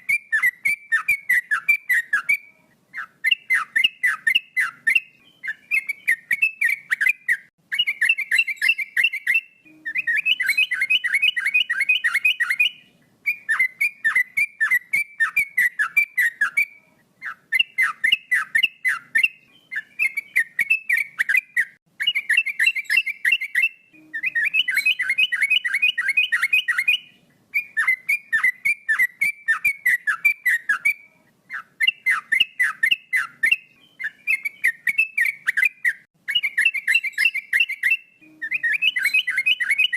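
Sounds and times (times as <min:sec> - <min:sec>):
bird singing warbled notes: 0:00.0 - 0:39.9.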